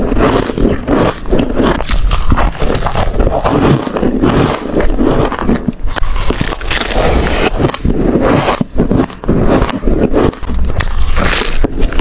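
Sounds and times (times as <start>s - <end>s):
crunching frost being chewed: 0.0s - 12.0s.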